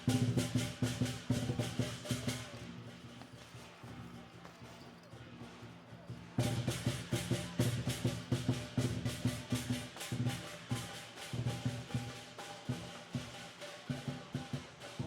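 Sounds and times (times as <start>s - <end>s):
drums beaten in fast rhythm: 0.0s - 4.3s, 5.2s - 15.0s.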